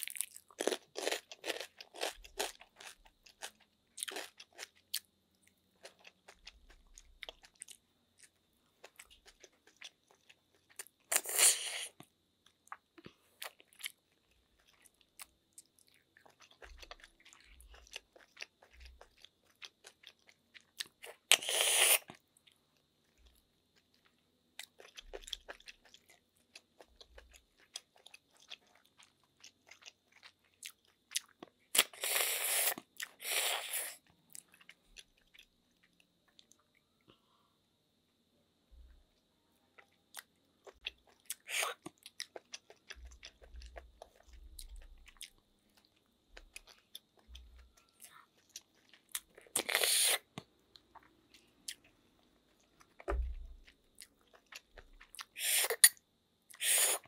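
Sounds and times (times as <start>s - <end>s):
crunching and chewing: 0.0s - 37.0s, 39.7s - 57.0s.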